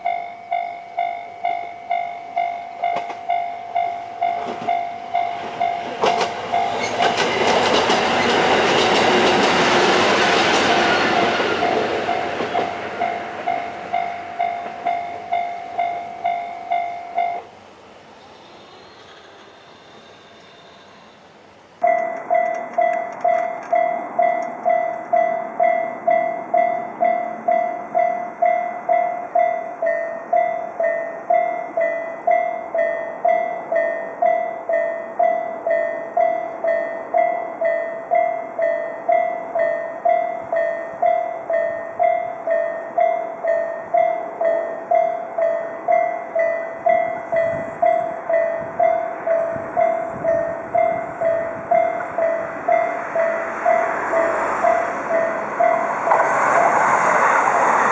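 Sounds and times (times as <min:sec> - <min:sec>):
railroad crossing warning bell: 0:00.0 - 0:57.9.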